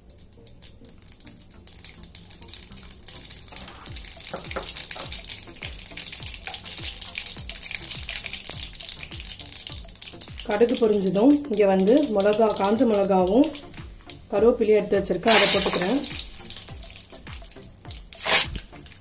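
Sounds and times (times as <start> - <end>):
seeds sizzling and popping in oil: 0.0 - 19.0.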